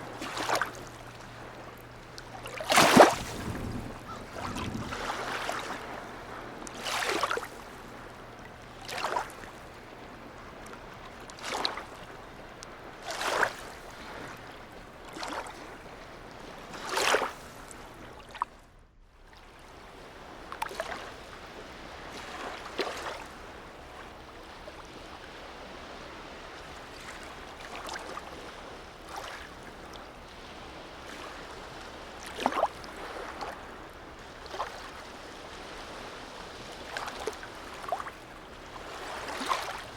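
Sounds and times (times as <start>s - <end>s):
waves lapping against quay: 0.0s - 39.9s.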